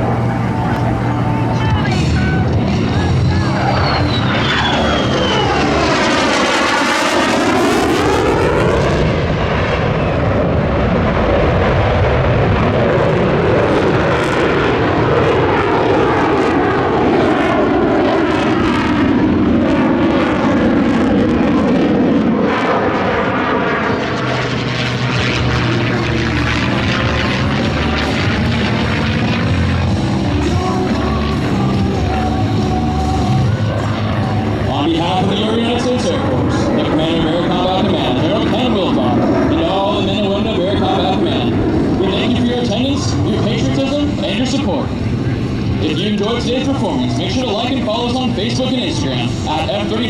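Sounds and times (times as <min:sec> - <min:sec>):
fighter jet roar: 0:00.0 - 0:50.0.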